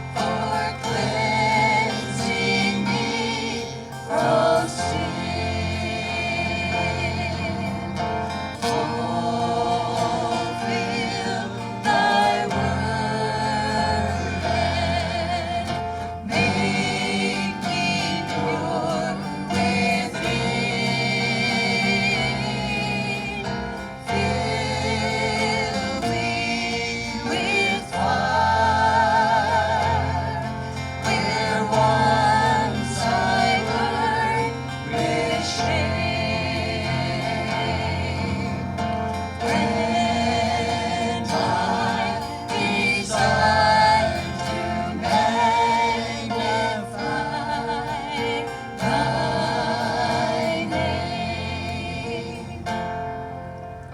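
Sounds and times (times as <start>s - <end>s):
bass: 0.0s - 53.9s
group singing gospel in harmony: 0.0s - 53.9s
guitar: 0.0s - 53.9s.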